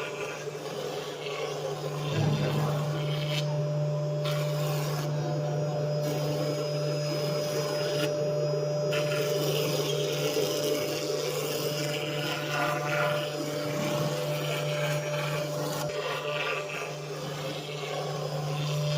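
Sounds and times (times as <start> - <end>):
cnc router humming: 0.0 - 18.9
cutter working material: 0.0 - 18.9.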